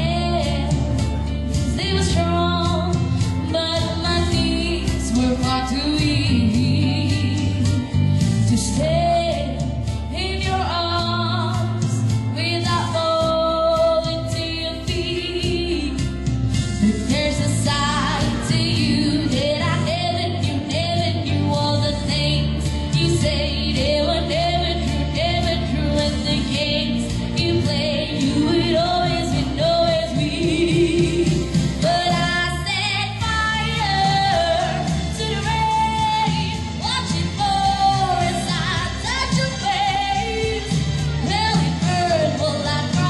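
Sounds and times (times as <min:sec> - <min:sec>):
instrumental accompaniment: 0:00.0 - 0:43.0
woman singing into a microphone: 0:00.0 - 0:43.0.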